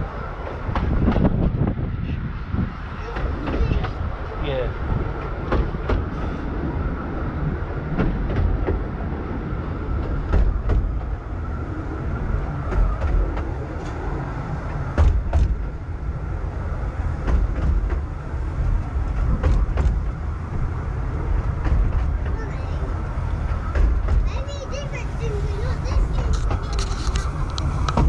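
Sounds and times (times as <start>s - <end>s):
train rumbling along track: 0.0s - 28.0s
wheels clicking over rail joints: 2.6s - 28.0s.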